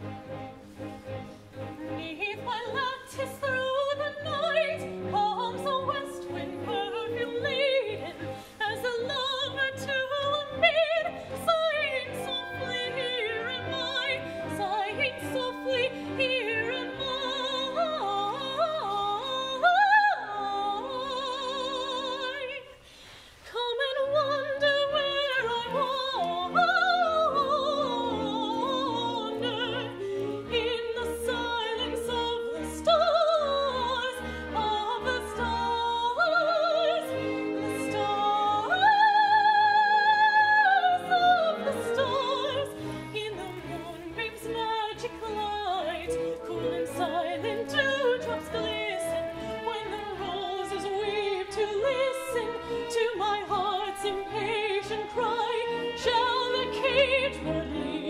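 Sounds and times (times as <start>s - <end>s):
orchestra accompaniment: 0.0s - 22.6s, 23.9s - 58.0s
woman singing opera: 1.8s - 22.8s, 23.4s - 58.0s.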